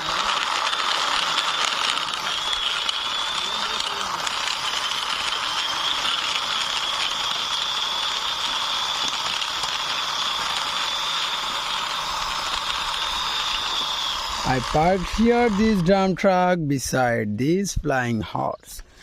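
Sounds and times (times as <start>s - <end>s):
thin high whir: 0.0s - 16.3s.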